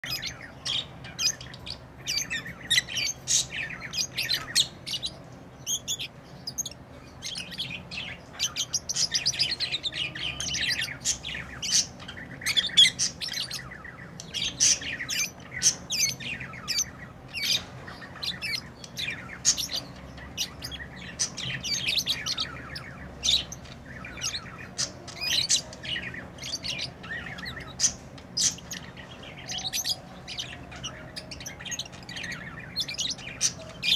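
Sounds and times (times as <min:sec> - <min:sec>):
lovebirds chirping and squawking: 0:00.0 - 0:33.9.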